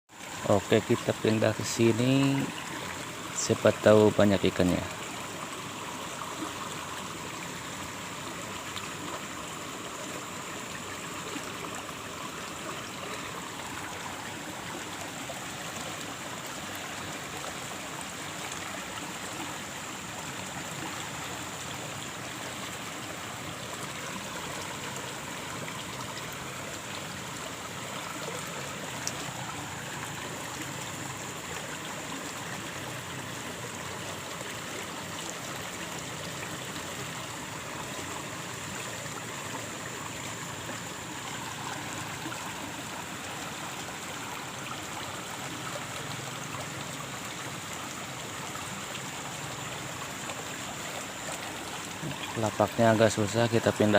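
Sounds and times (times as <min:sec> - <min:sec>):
stream water flowing: 0:00.1 - 0:53.9.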